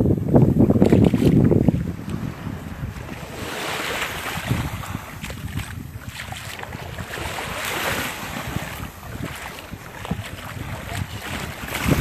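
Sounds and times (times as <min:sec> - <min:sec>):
wind buffeting microphone: 0:00.0 - 0:12.0
small waves lapping: 0:00.6 - 0:12.0.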